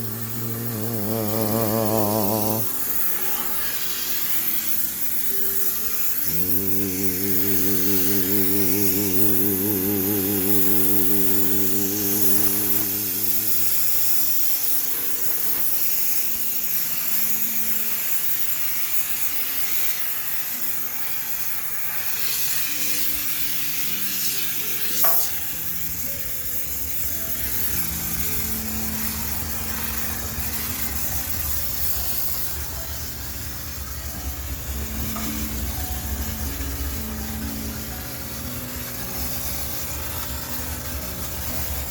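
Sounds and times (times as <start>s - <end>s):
background music: 0.0s - 41.9s
steam cleaner hissing: 0.0s - 41.9s.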